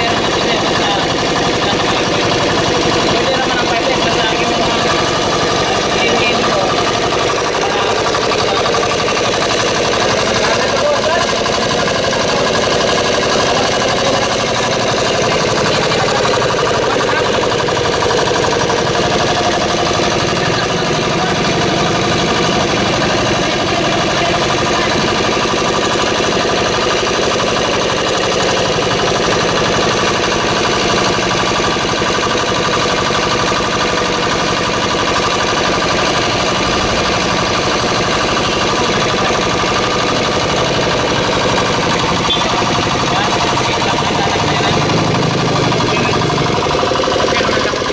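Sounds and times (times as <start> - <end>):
small diesel engine running: 0.0 - 47.9.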